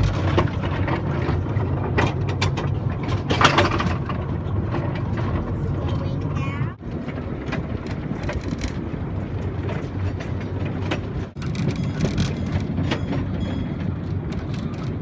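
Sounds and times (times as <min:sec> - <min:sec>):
rattling clicks and knocks: 0:00.0 - 0:15.0
train rumbling on track: 0:00.0 - 0:15.0.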